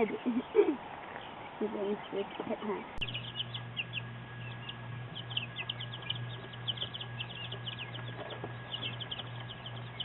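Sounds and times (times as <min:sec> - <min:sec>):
chicks peeping: 0:00.0 - 0:10.0
low hum: 0:00.0 - 0:10.0.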